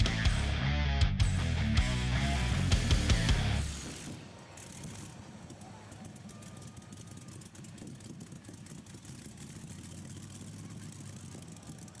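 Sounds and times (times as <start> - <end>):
tractor engine humming: 0.0 - 12.0.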